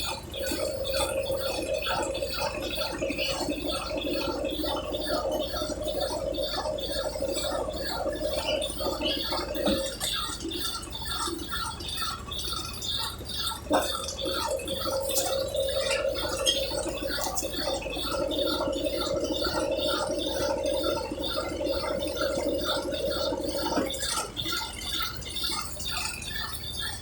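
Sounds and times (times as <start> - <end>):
washing machine motor hum: 0.0 - 27.0
water gurgling: 0.0 - 27.0.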